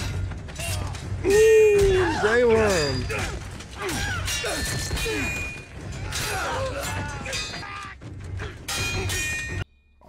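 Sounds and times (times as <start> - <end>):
sword blows and clashes: 0.0 - 7.8, 8.4 - 9.6
men grunting and crying out: 0.6 - 9.2.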